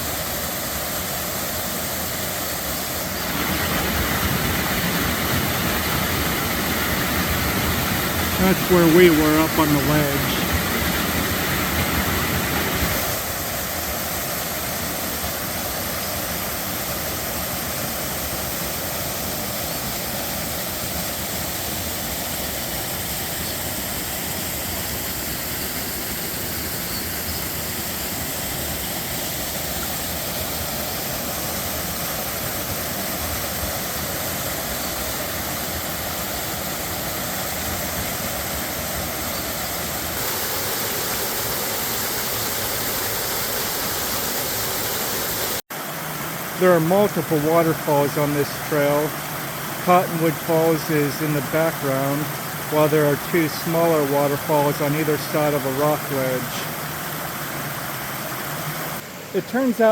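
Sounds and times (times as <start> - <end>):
waterfall pouring: 0.0 - 59.9.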